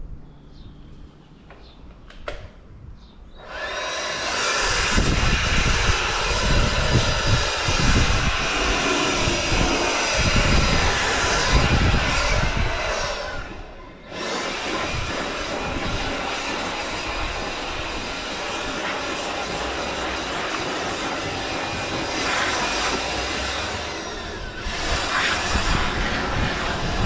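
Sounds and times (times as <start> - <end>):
electric router whining: 3.4 - 27.0.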